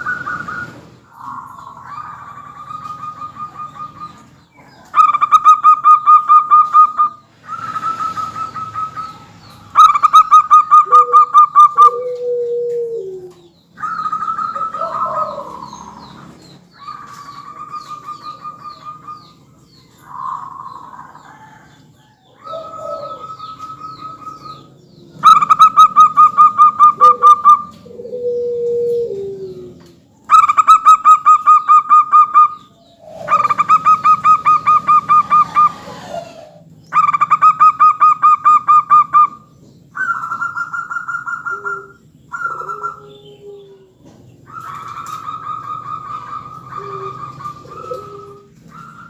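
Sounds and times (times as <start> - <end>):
low falling dove coos: 0.0 - 16.0, 22.3 - 39.4, 40.0 - 49.0
doves trilling: 0.0 - 49.0.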